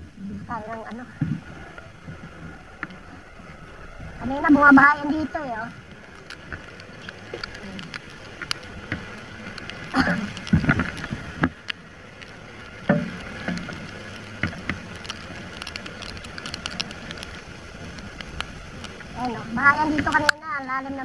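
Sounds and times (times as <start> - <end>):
heavy rain: 0.0 - 21.0
raindrops ticking on camera: 0.0 - 21.0
rushes of spray or wind: 0.0 - 21.0
tyre hiss on wet road: 1.3 - 20.2.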